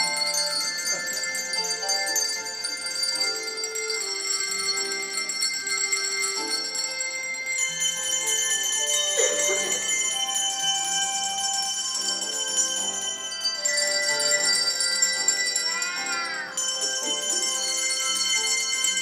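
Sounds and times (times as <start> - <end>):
handbells ringing: 0.0 - 19.0
lower accompaniment melody: 0.0 - 19.0.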